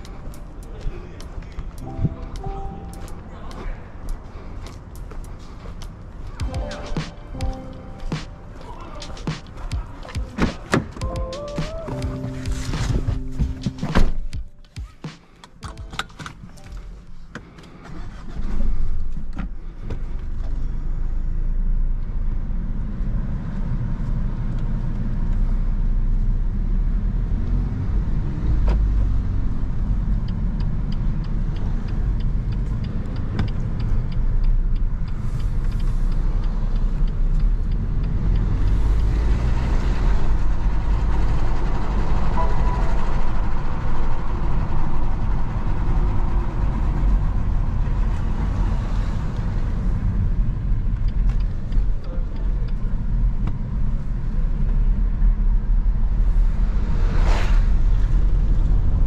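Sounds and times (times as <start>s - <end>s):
turn signal ticking: 0.0s - 18.2s, 27.2s - 56.3s
car engine hum: 0.0s - 59.0s
road rumble: 0.0s - 59.0s.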